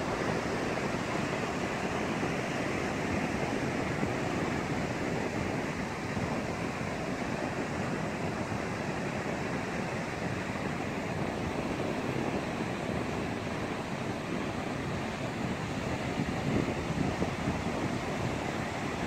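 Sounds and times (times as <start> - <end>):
surf breaking on beach: 0.0 - 19.0.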